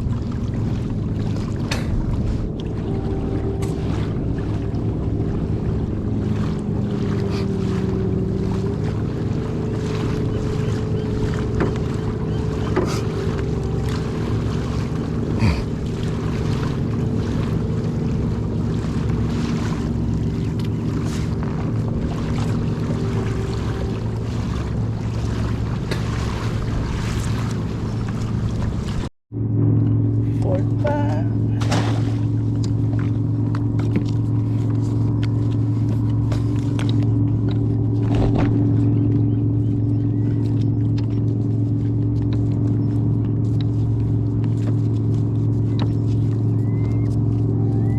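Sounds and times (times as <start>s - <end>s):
boat motor running: 0.0s - 47.9s
water noise: 0.0s - 47.9s
wind: 0.0s - 47.9s.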